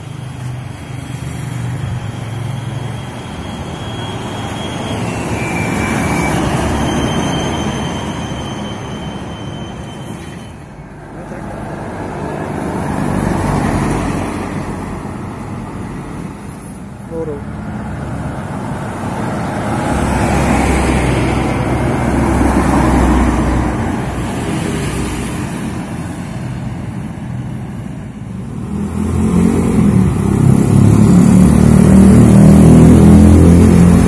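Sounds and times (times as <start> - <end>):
diesel trucks driving past: 0.0 - 34.0.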